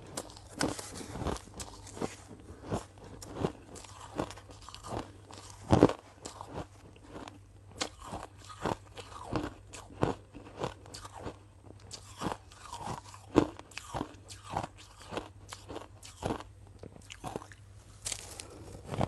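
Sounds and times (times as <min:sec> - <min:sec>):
person chewing ice cubes: 0:00.0 - 0:19.0.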